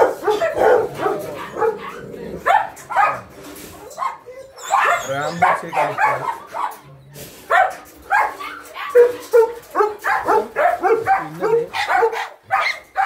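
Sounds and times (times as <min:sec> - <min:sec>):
dog barking: 0:00.0 - 0:03.3, 0:04.0 - 0:06.8, 0:07.5 - 0:13.0.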